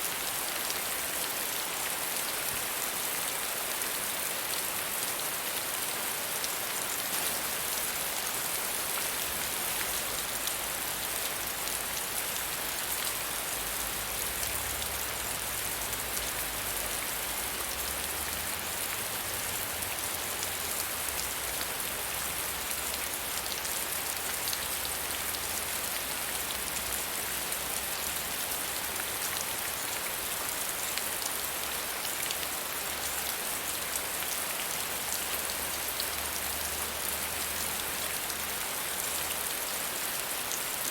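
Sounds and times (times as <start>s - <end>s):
soft rain falling on a surface: 0.0s - 40.9s.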